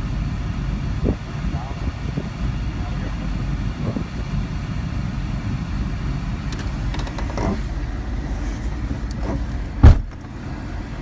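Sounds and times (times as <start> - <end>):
motor vehicle rumbling: 0.0 - 11.0.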